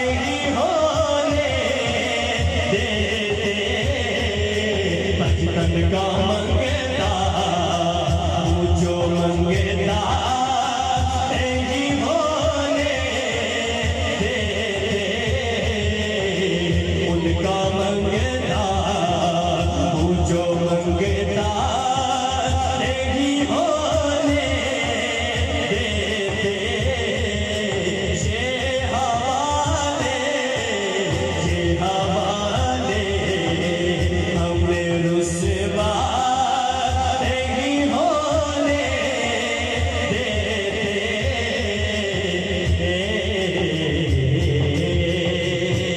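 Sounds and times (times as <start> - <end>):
man singing devotional poem: 0.0 - 45.9.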